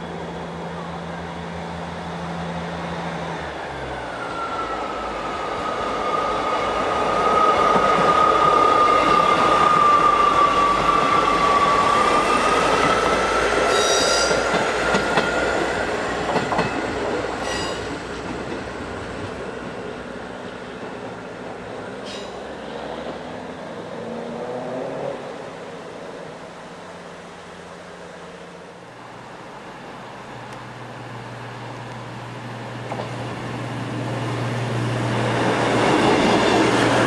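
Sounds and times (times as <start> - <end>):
train passing with rushing rumble: 0.0 - 37.0.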